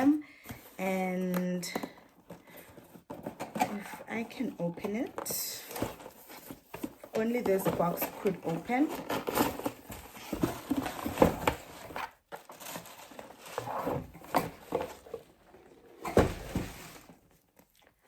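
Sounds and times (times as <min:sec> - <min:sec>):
packaging scraping and rustling: 0:01.5 - 0:17.4.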